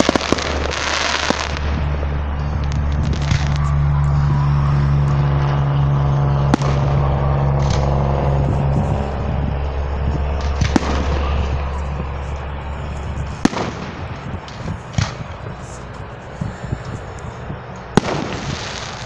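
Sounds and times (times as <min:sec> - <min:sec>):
fireworks rockets bursting: 0:00.0 - 0:19.0
low hum: 0:00.0 - 0:19.0
sharp firework bangs: 0:00.0 - 0:19.0.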